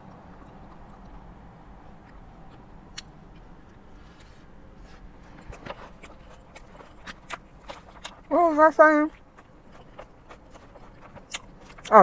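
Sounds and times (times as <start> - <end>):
lettuce crunching while chewing: 0.0 - 12.0
low steady hum: 0.0 - 12.0.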